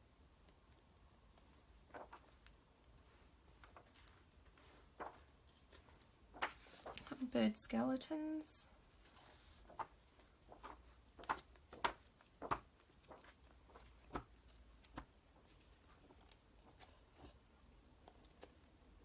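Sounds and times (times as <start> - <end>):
magazine pages rustling: 1.3 - 7.3, 8.9 - 18.8.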